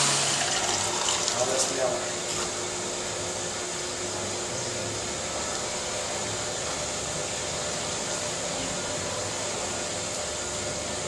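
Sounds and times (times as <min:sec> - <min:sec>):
milking machine hiss and hum: 0:00.0 - 0:11.0.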